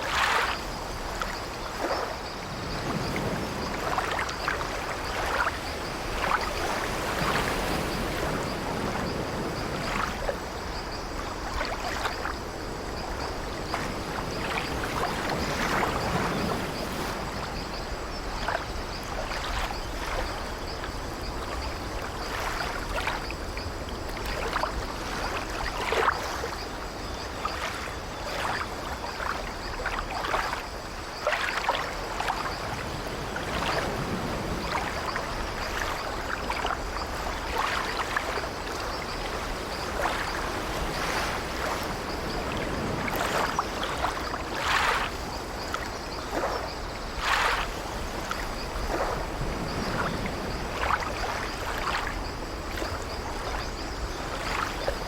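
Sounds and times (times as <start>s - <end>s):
water lapping against wooden ship: 0.0s - 55.0s.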